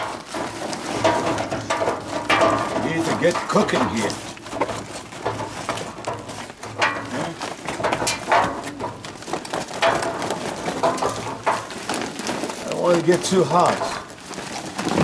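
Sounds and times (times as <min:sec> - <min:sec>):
charcoal clinking on metal grill: 0:00.0 - 0:15.0.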